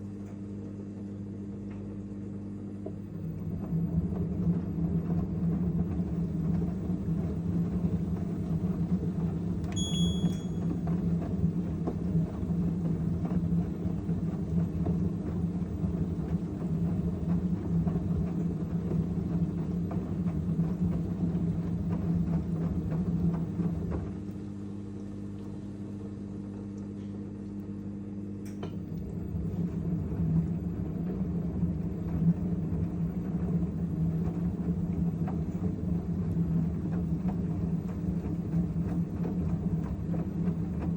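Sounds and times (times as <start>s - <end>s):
washing machine drum rumbling: 2.8s - 24.3s, 28.2s - 40.9s.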